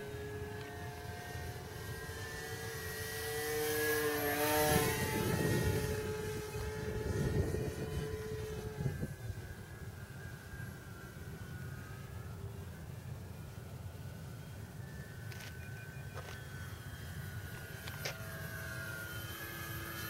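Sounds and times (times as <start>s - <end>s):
model plane motor whine: 0.0s - 20.0s.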